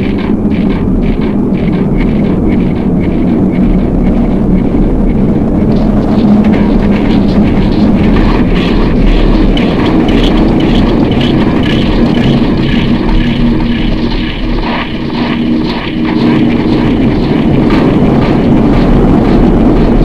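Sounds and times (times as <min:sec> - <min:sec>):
loud droning rumble: 0:00.0 - 0:20.0
steady low hum: 0:00.0 - 0:20.0.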